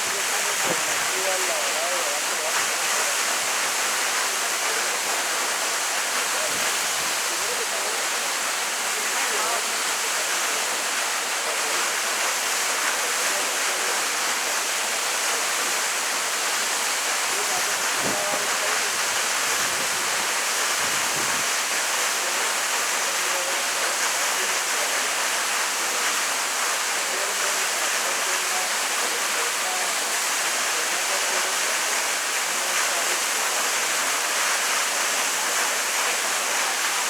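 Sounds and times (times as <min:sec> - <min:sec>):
waterfall rushing into pool: 0:00.0 - 0:37.0.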